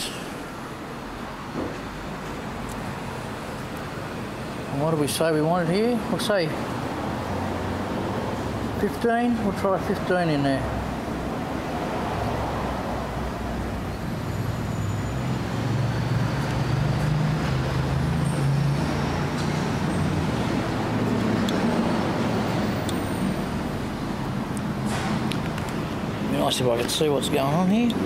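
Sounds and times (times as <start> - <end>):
passing road traffic rumble: 0.0 - 28.0.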